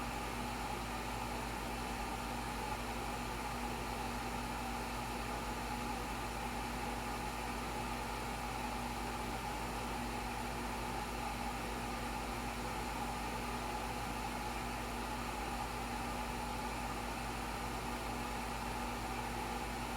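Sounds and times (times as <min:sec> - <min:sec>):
steady mechanical hum with hiss: 0:00.0 - 0:19.9.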